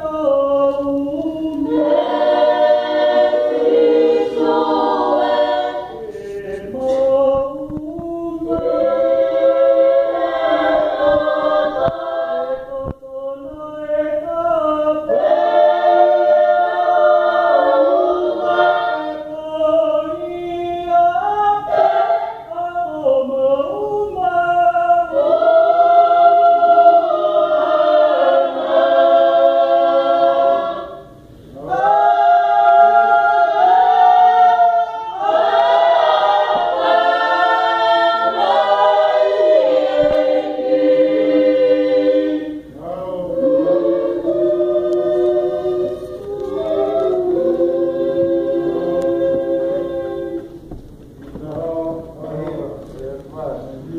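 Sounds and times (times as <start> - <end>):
choir singing unaccompanied: 0.0 - 53.9.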